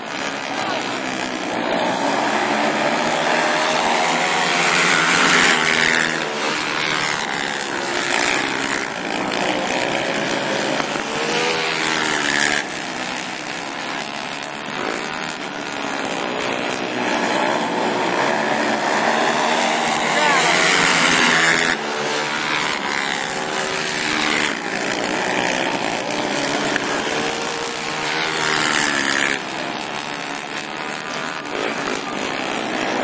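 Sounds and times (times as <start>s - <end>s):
atv engines revving: 0.0s - 33.0s.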